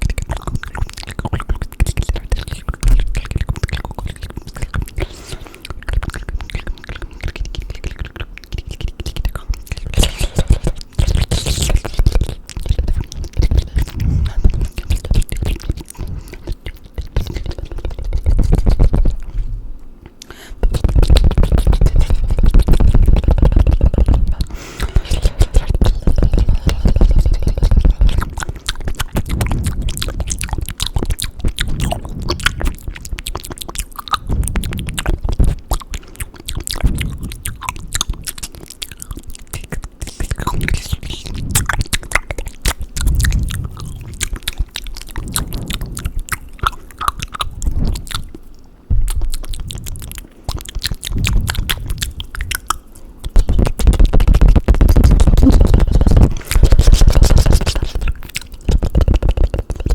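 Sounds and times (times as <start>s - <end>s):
wet mouth sounds and tongue clicks: 0.0s - 19.5s, 20.1s - 59.9s.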